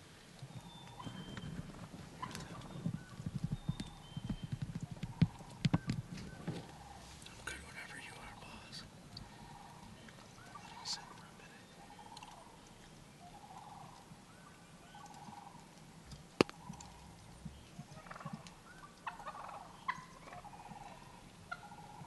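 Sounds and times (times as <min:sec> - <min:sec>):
turkeys gobbling: 0:00.6 - 0:15.7, 0:16.4 - 0:17.2, 0:17.8 - 0:22.0.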